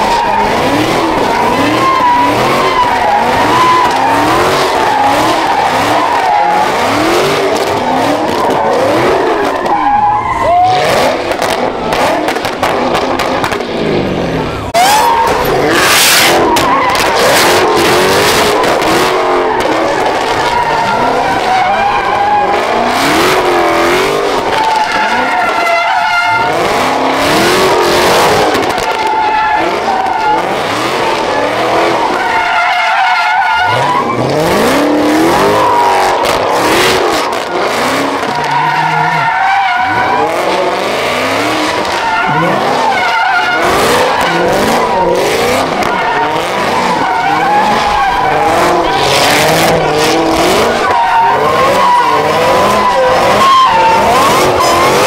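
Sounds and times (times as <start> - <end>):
tyres squealing: 0.0 - 13.2, 14.4 - 55.0
car engine revving: 0.0 - 55.0.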